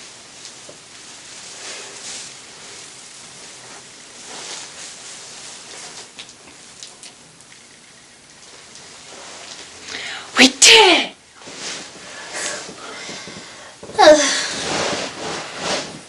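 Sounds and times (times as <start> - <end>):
steady hiss: 0.0 - 16.0
clothing rustling: 0.2 - 6.8, 7.7 - 9.8, 11.4 - 16.0.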